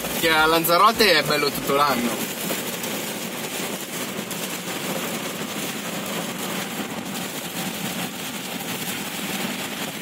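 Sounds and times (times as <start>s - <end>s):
rain on car body: 0.0s - 10.0s
tyres on wet road: 0.0s - 10.0s.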